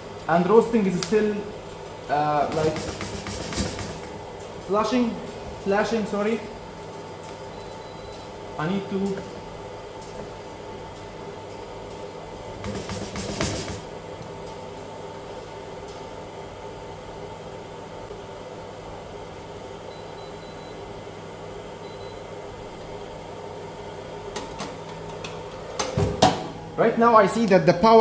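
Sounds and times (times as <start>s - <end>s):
coffee roaster fan humming: 0.0s - 28.0s.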